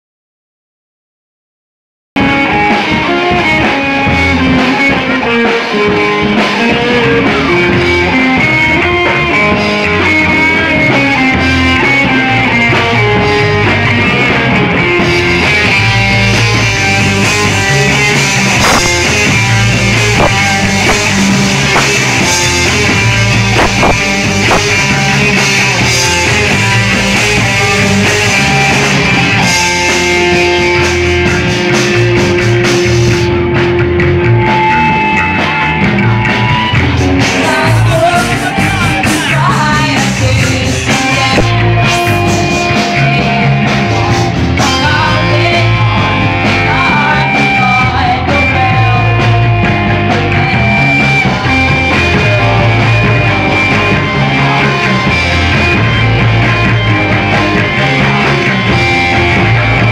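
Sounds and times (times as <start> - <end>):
drum kit: 2.2 - 59.9
electric guitar: 2.2 - 59.9.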